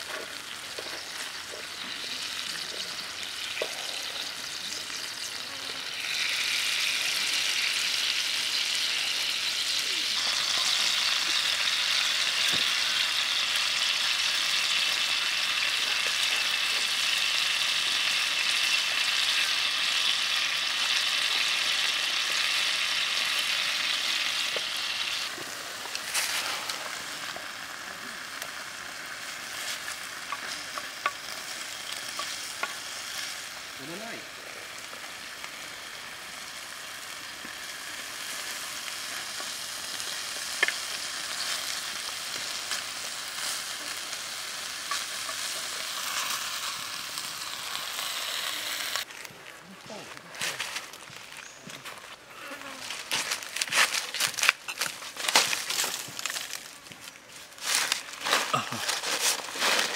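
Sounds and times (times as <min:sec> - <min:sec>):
octopus sizzling in oil: 0:00.0 - 0:49.1.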